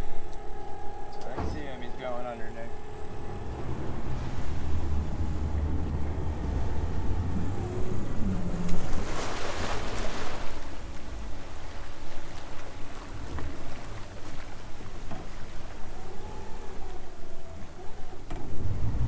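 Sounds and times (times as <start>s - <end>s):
outboard motors rumbling: 0.0s - 19.0s
water washing along hull: 0.0s - 19.0s.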